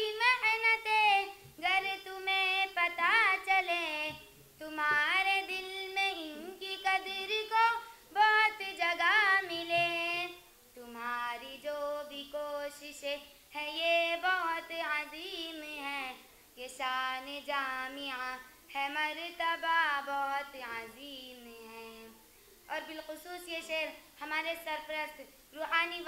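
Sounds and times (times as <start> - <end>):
girl singing solo: 0.0 - 26.0.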